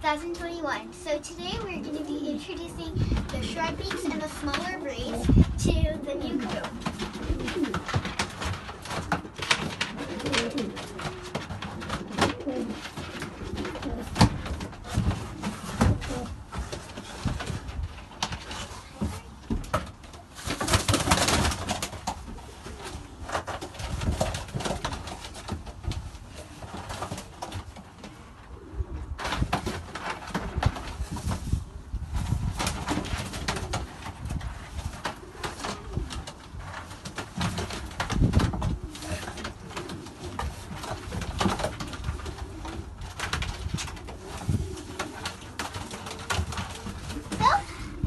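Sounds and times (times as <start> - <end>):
pigeons cooing: 0.7 - 17.6, 22.2 - 32.0, 33.2 - 48.0
clicks knocks and rustles: 6.3 - 28.2, 29.2 - 47.4.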